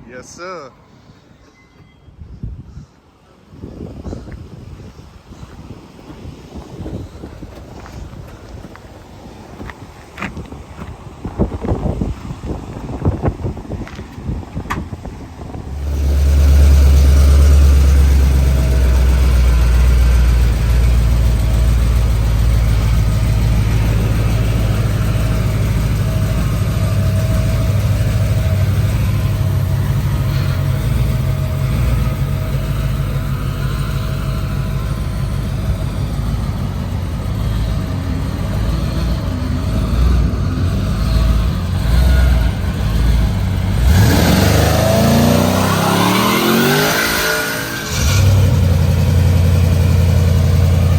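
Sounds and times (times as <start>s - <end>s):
car engine deep rumble: 3.4s - 50.9s.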